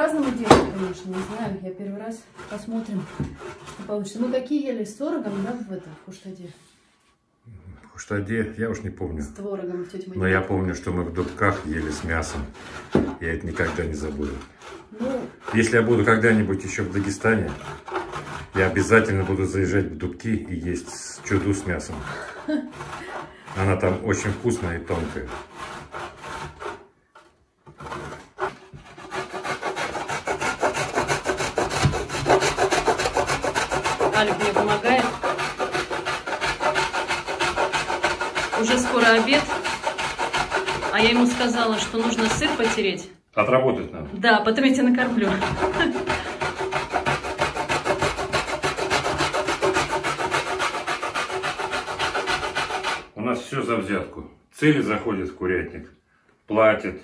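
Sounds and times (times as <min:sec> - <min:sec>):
cheese grating: 0:00.0 - 0:06.4, 0:10.2 - 0:43.0, 0:44.6 - 0:53.2.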